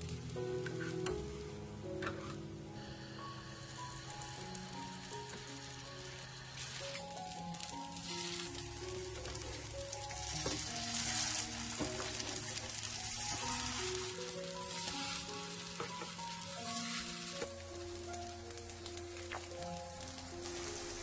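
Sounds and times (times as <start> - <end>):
background music: 0.0 - 21.0
patties sizzling in oil: 0.0 - 21.0.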